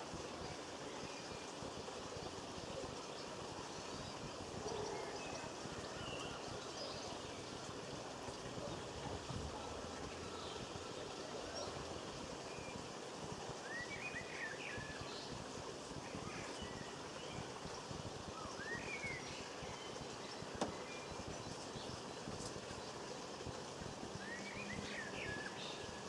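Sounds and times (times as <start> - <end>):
outdoor background hiss: 0.0 - 26.0
songbirds chirping: 0.0 - 26.0.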